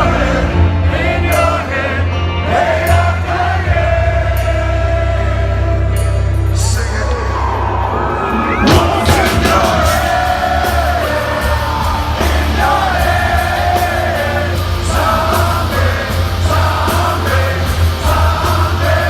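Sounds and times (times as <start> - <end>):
heavy metal band playing live: 0.0 - 19.0.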